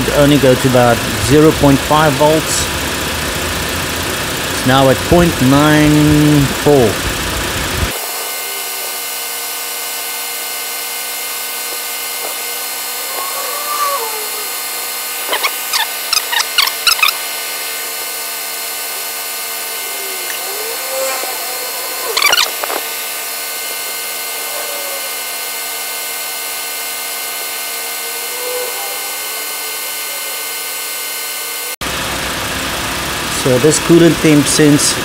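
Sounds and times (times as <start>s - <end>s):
high-pitched engine whine: 0.0s - 35.0s.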